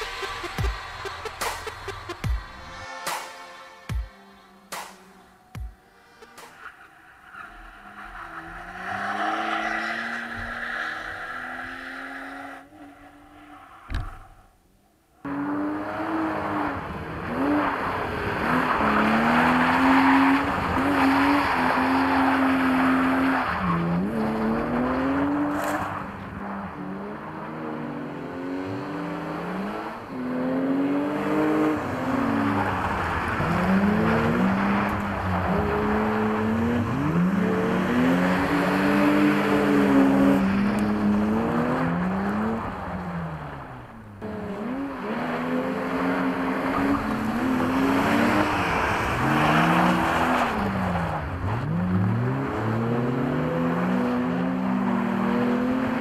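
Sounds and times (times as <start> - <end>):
car engines revving: 4.5 - 14.6, 15.2 - 56.0.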